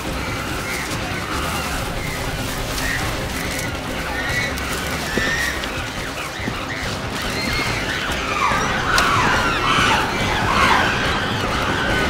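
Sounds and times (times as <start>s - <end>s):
chimpanzees screaming: 0.0s - 12.0s.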